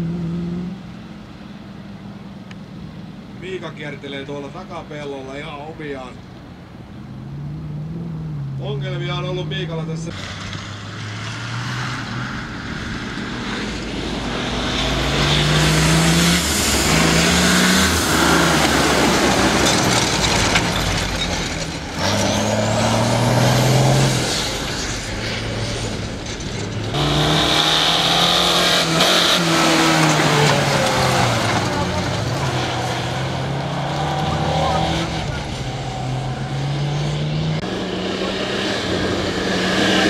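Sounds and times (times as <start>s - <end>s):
off-road engines revving: 0.0s - 1.0s, 3.4s - 40.0s
tyre and dirt noise: 0.0s - 40.0s.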